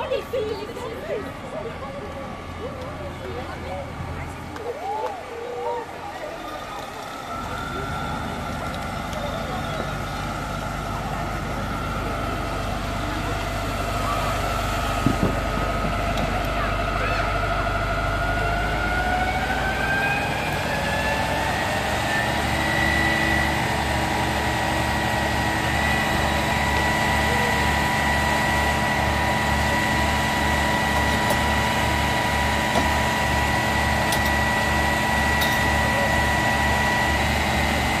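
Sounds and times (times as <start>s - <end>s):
fire engine pump motor: 0.0s - 38.0s.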